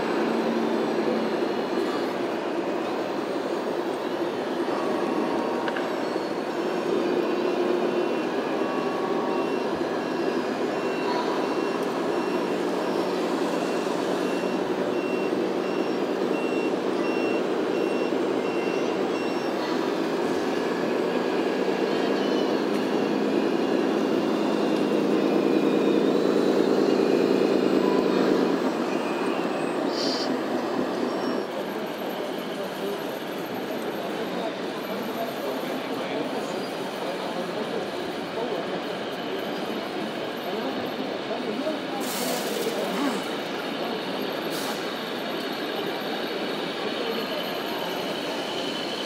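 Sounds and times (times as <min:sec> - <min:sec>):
reversing beeper: 0:04.1 - 0:37.8, 0:38.4 - 0:49.0.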